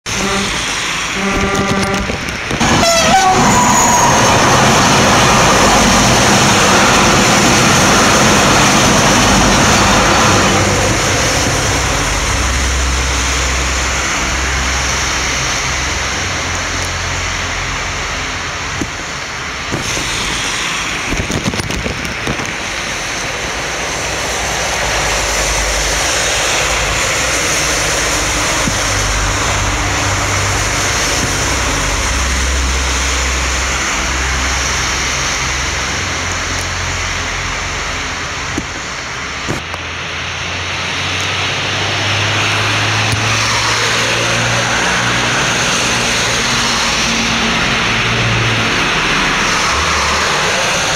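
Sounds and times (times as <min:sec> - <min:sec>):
low engine rumble: 0:00.0 - 0:50.9
vehicles passing on wet road: 0:00.0 - 0:50.9.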